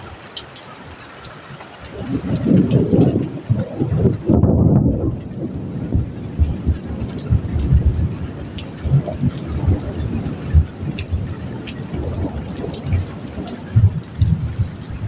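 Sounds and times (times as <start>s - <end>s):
dripping ticks: 0.0s - 15.0s
heavy rain: 0.0s - 15.0s
running rainwater: 0.0s - 15.0s.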